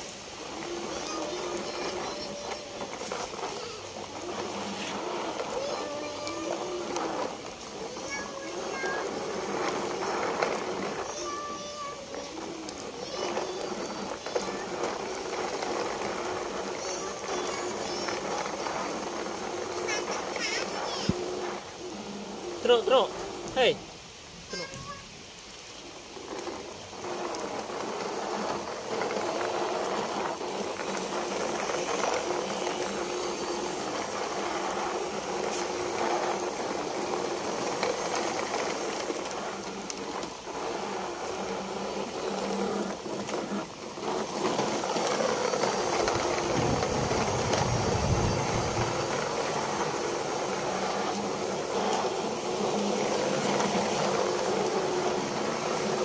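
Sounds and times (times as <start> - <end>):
plastic wheels rattling on wet concrete: 0.0 - 56.0.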